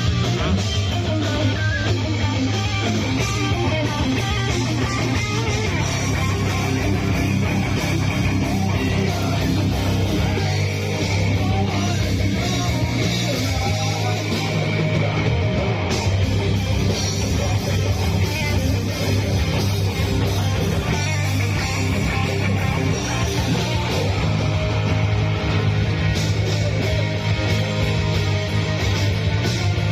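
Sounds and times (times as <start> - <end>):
rock band playing live: 0.0 - 29.9.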